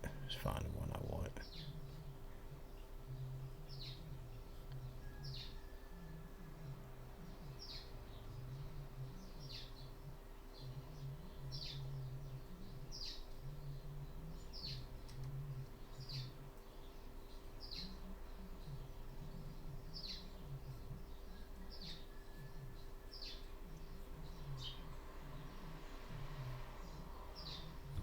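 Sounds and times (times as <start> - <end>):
bird chirping: 0.0 - 28.0
steady low hum: 0.0 - 28.0.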